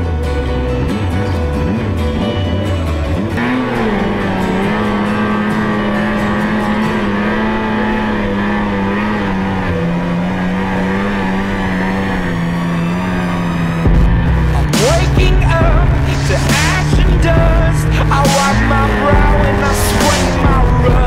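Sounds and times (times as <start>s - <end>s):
snowmobile engine droning: 0.0s - 21.0s.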